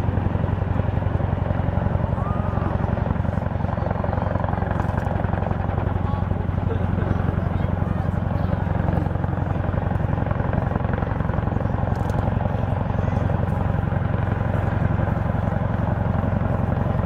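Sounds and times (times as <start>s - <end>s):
deep continuous drone: 0.0s - 17.0s
helicopter rotor chop: 0.0s - 17.0s.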